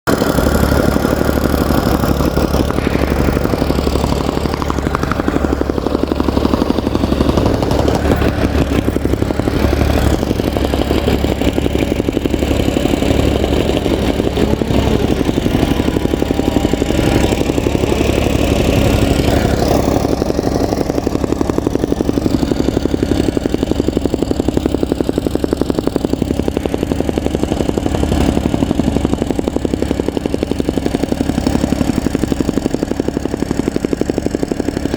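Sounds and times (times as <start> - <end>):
soil compactor pounding: 0.0 - 34.9.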